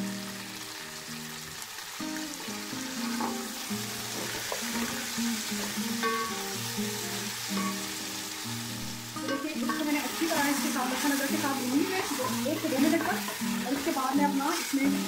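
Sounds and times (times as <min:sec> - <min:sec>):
chicken sizzling in a pot: 0:00.0 - 0:15.0.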